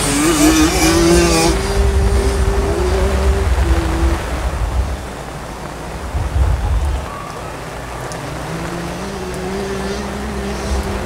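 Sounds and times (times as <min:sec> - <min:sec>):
heavy rain falling: 0:00.0 - 0:11.0
low rumble: 0:00.0 - 0:11.0.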